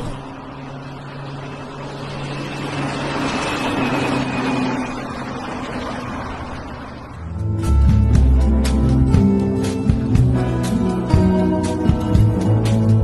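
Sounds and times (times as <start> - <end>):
car engine hum: 0.0 - 13.0
tyre road noise: 0.0 - 13.0.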